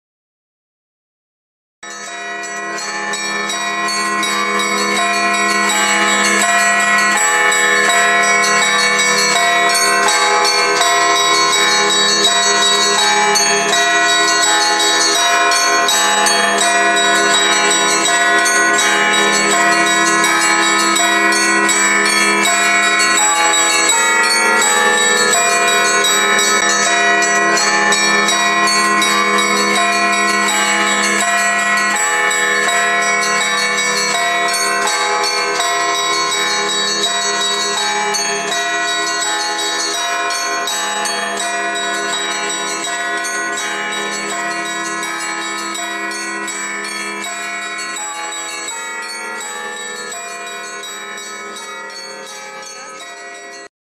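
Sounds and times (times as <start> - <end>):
church bells ringing: 1.8 - 53.7.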